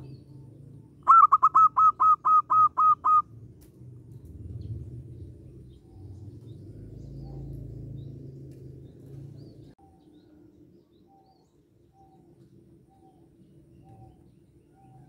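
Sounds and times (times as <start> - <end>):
dove calling: 0.0 - 3.4, 5.0 - 10.5, 11.1 - 15.0
low steady background rumble: 0.0 - 15.0.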